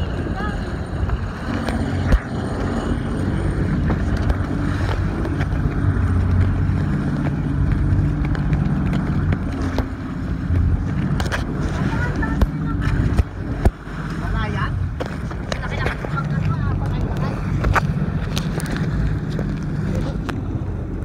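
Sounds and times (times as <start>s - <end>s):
boat engine droning: 0.0s - 21.0s
water splashing along hull: 0.0s - 21.0s
wind buffeting microphone: 0.0s - 21.0s.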